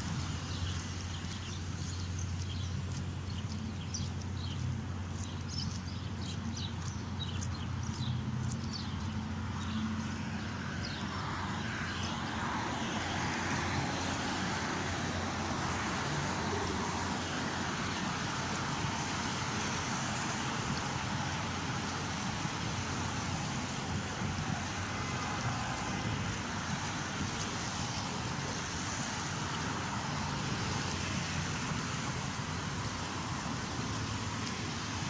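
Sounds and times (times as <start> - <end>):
passing cars: 0.0 - 35.0.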